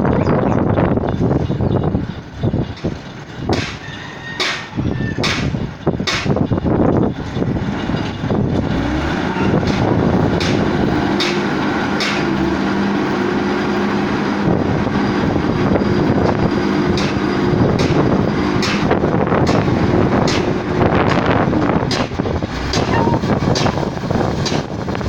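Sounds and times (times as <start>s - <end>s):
heavy machinery engine hum: 0.0s - 25.0s.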